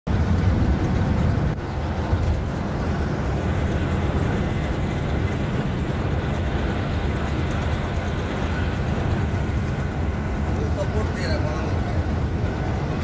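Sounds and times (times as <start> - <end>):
diesel engine drone: 0.1 - 13.0
tyre and wind noise: 0.1 - 13.0.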